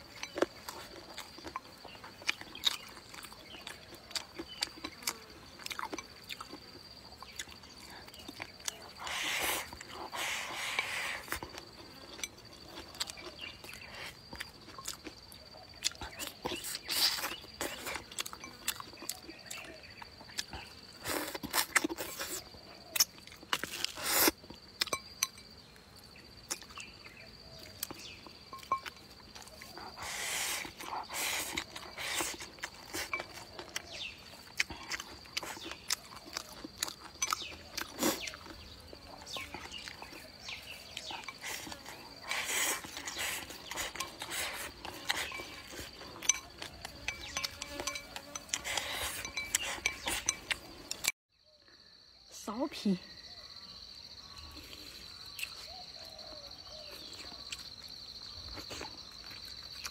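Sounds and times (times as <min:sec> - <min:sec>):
chewing: 0:00.0 - 0:51.2, 0:54.4 - 0:59.9
high insect tone: 0:00.0 - 0:59.9.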